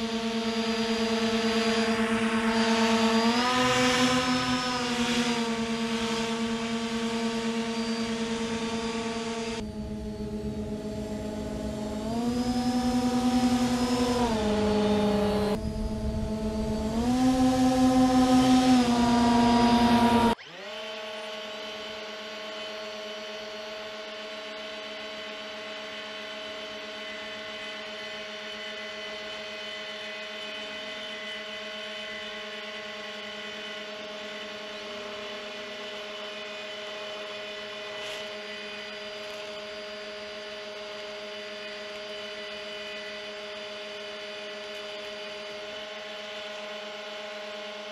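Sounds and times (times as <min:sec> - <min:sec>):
model hovercraft motors humming: 0:00.0 - 0:47.9.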